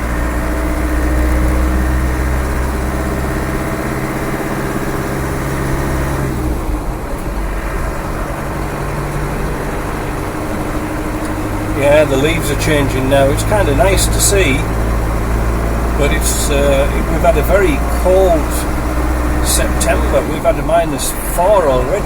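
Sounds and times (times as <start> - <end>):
diesel engine running: 0.0 - 22.0
road noise: 0.0 - 22.0.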